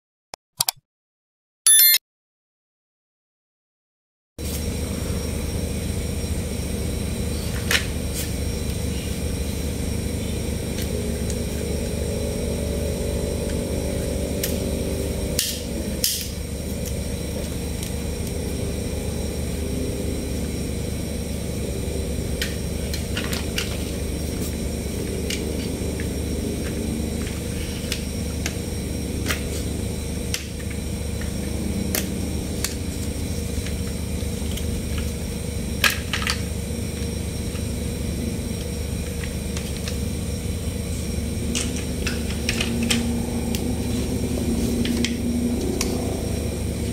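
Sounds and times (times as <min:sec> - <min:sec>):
low background hum: 0:04.4 - 0:46.9.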